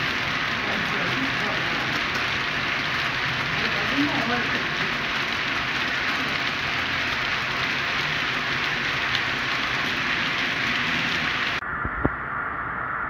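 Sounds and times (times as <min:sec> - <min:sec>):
model train wheels on rails: 0:00.0 - 0:11.6.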